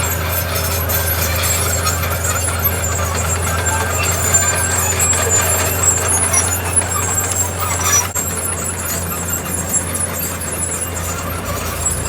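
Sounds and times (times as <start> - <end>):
diesel earthmoving machine engine drone: 0.0 - 12.0.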